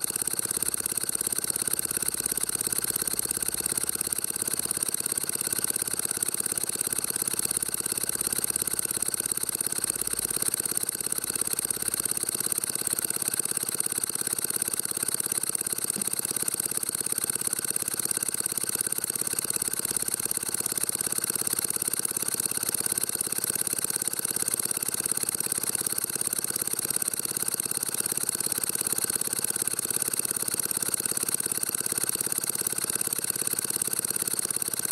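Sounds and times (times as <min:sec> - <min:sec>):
steam engine running: 0:00.0 - 0:34.9.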